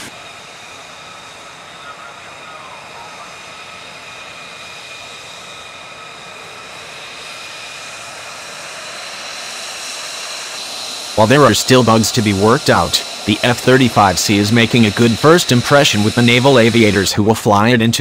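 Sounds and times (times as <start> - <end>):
jet engine whining: 0.0 - 18.0.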